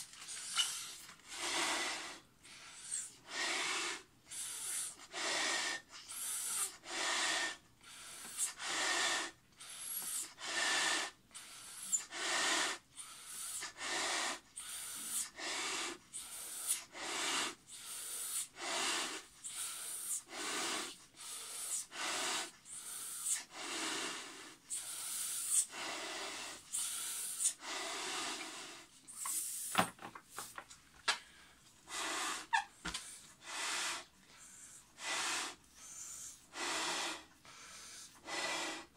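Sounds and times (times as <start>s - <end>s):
breaths blown into balloon: 0.0s - 29.8s, 31.8s - 38.9s.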